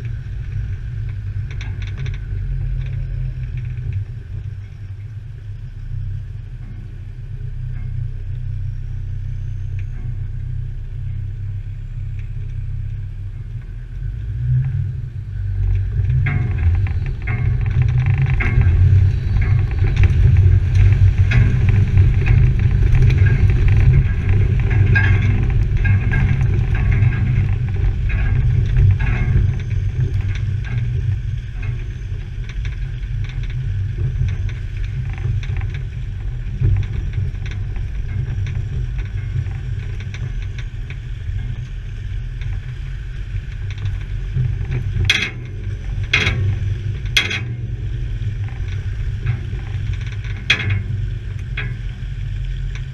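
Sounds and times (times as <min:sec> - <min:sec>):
engine low rumble: 0:00.0 - 0:52.9
vehicle body rattling over stones: 0:00.0 - 0:52.9.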